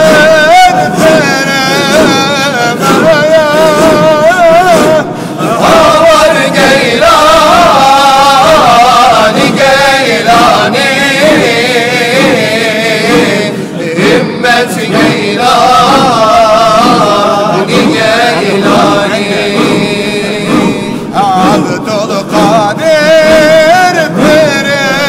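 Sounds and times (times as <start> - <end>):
lead voice singing ornamented melody: 0.0 - 25.0
men chanting in a group: 0.0 - 25.0.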